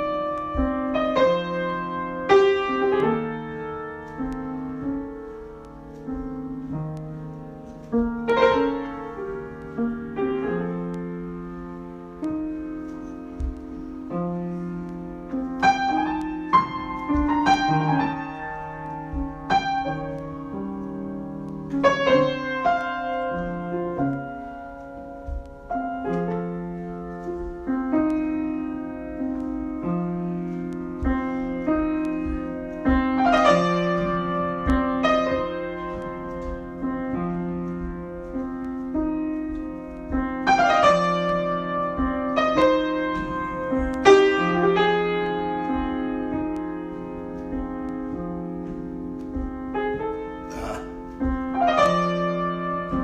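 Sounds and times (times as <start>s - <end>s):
solo piano: 0.0s - 53.0s.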